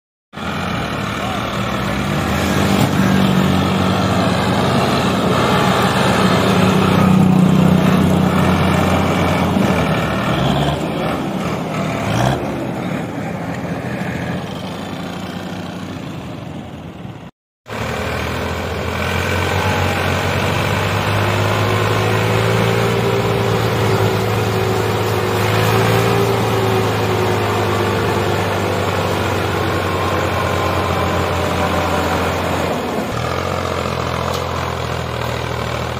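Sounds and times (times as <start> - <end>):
tractor diesel engine under load: 0.3 - 35.9.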